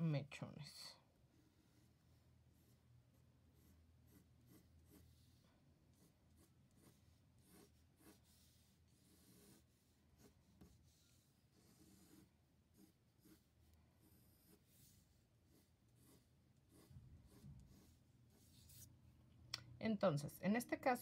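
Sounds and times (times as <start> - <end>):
pencil scratching on paper: 1.3 - 18.9.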